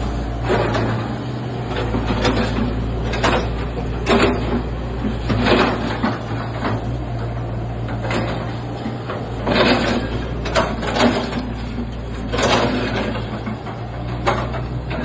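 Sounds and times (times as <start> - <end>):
diesel engine humming: 0.0 - 15.0
excavator clattering and scraping: 0.0 - 15.0.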